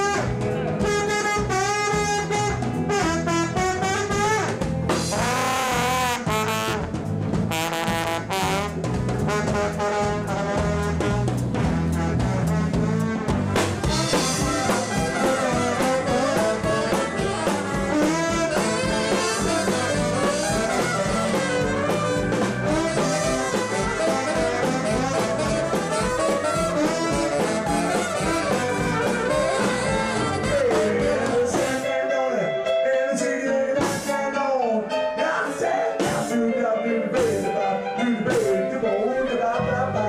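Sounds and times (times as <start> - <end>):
trombone: 0.0 - 32.3
trumpet: 0.0 - 33.1
drums: 0.0 - 40.0
keyboards: 0.0 - 40.0
live band playing: 0.0 - 40.0.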